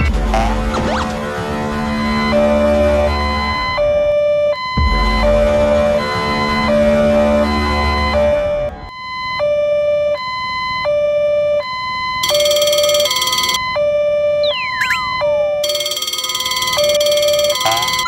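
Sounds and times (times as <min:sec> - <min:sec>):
two-tone electronic alarm: 0:01.4 - 0:18.0.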